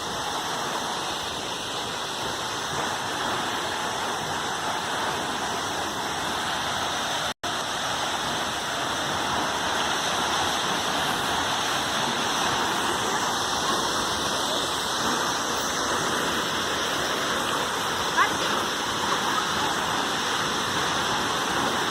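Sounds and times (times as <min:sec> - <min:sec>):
waterfall roaring: 0:00.0 - 0:21.9.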